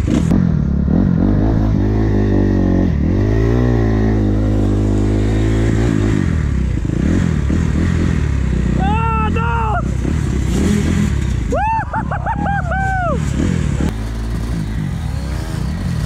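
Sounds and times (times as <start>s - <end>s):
dirt bike engine revving: 0.0s - 16.0s
engine drone: 0.0s - 16.0s.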